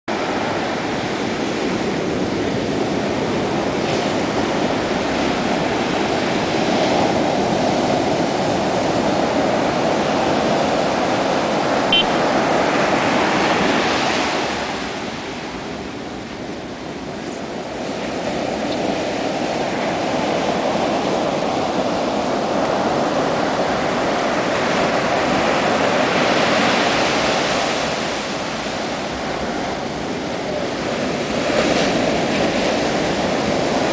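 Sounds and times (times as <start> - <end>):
waves crashing on beach: 0.1 - 33.9.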